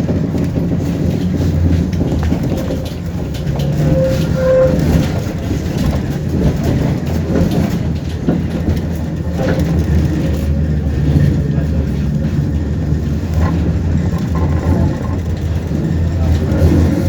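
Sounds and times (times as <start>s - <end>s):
tram wheels rumbling: 0.0s - 17.0s.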